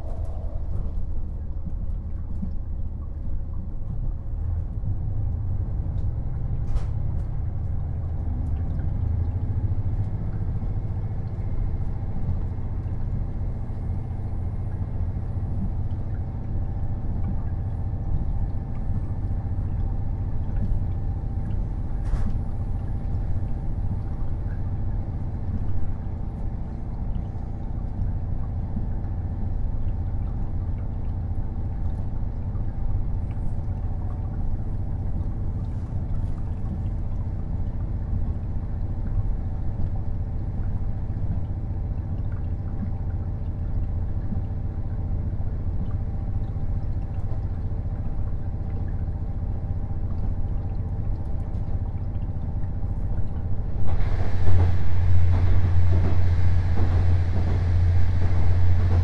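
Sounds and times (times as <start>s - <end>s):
diesel railcar rumble: 0.0s - 59.0s.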